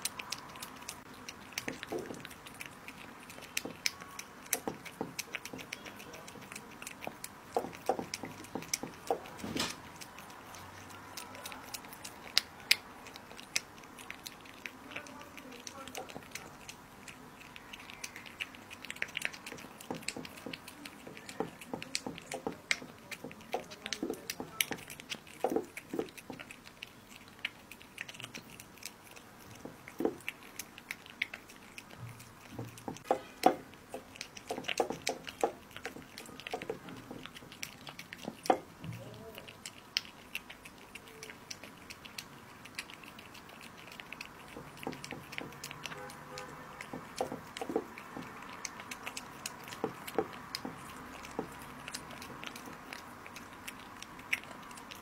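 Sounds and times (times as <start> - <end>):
cat chewing meat: 0.0 - 55.0.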